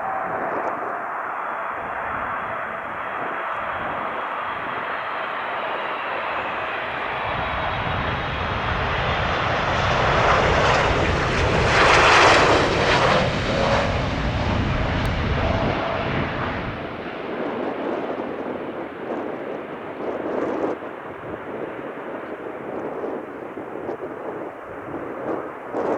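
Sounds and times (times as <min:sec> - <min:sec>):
large aircraft engines passing: 0:00.0 - 0:23.1.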